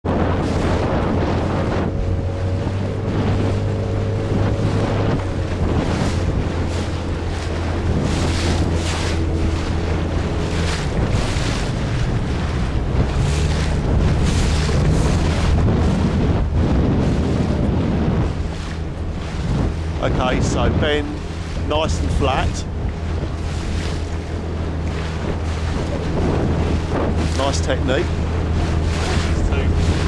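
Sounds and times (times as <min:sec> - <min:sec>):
motorboat engine hum: 0:00.0 - 0:30.0
water splashing past hull: 0:00.0 - 0:30.0
wind buffeting microphone: 0:00.0 - 0:30.0.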